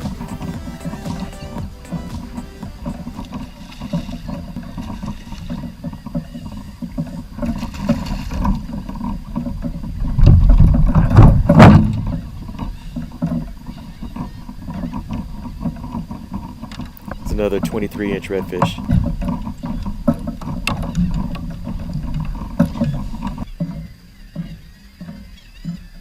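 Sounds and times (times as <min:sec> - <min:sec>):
water sounds: 0:00.0 - 0:25.0.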